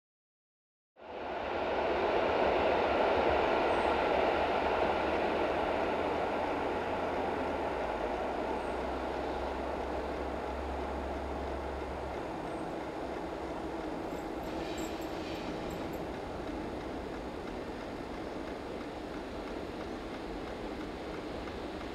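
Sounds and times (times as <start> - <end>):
train rushing noise along rails: 1.0 - 21.9.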